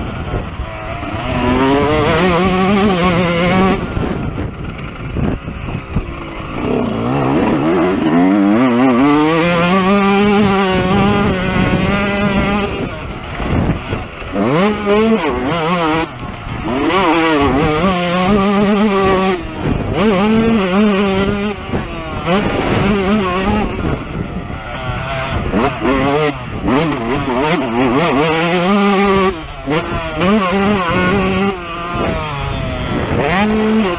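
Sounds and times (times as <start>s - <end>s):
two-stroke motorcycle engine revving: 0.0s - 33.9s.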